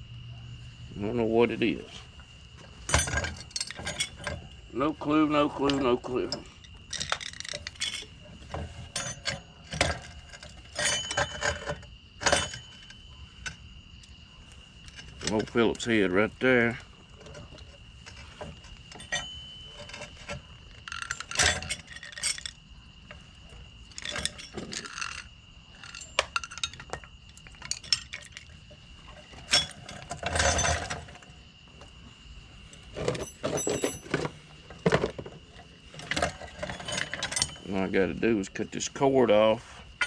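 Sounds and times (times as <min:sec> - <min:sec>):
screwdriver and screws clinking on metal: 0:02.7 - 0:14.1, 0:14.8 - 0:23.2, 0:23.8 - 0:31.3, 0:32.7 - 0:38.2.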